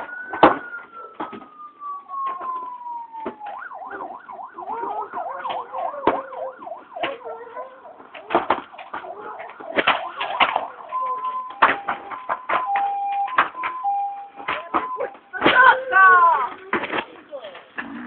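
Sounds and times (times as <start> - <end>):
fire engine sirens: 0.0 - 16.4.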